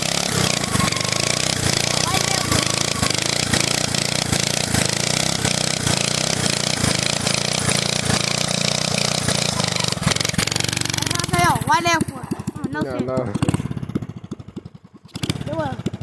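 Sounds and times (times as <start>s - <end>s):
small engine at full throttle: 0.0s - 16.0s
tire spinning on asphalt: 0.0s - 16.0s.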